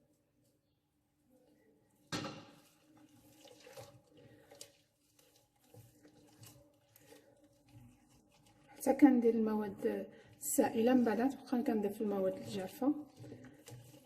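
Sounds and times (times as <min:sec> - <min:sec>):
utensil scraping a mixing bowl: 0:02.5 - 0:14.0.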